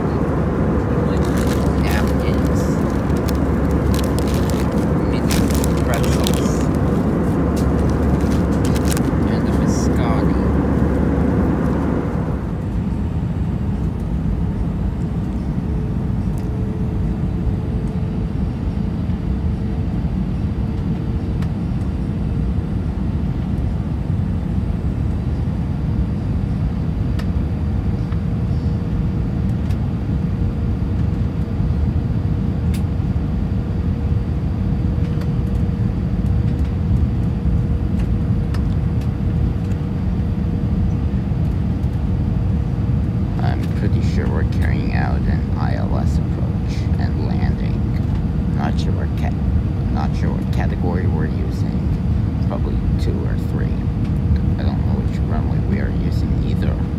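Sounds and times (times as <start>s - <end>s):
aircraft cabin engine roar: 0.0s - 56.9s
faint steady hum: 0.0s - 56.9s.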